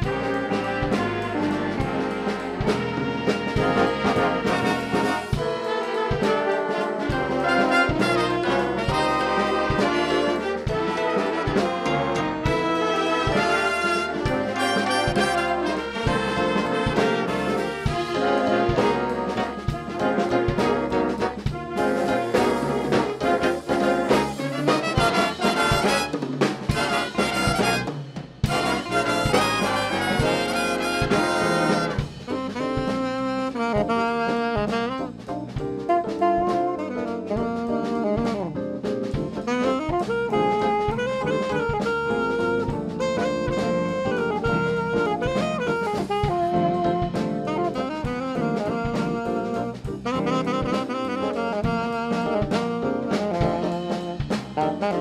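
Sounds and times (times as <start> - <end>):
jazz band playing: 0.0 - 55.0.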